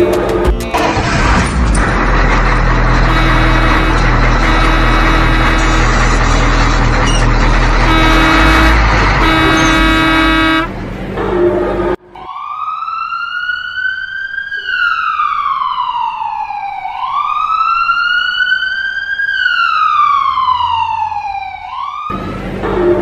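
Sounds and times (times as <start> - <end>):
emergency vehicle siren wailing: 0.8 - 10.7, 11.3 - 23.0.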